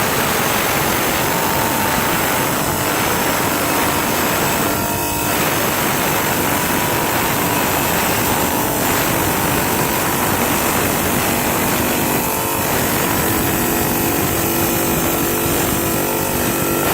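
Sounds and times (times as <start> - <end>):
blade grinding through stone: 0.0 - 16.9
tile saw motor whine: 0.0 - 16.9.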